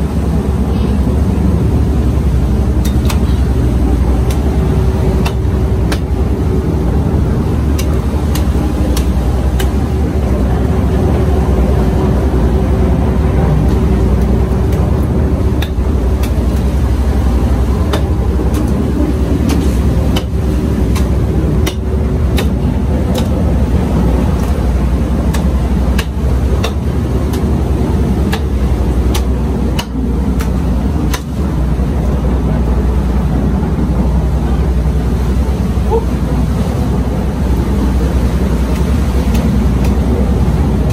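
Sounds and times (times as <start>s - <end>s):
low engine drone: 0.0s - 40.9s.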